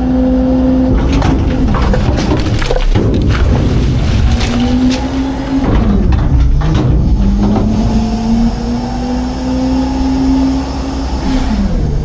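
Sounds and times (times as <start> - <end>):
garbage truck engine drone: 0.0 - 12.0.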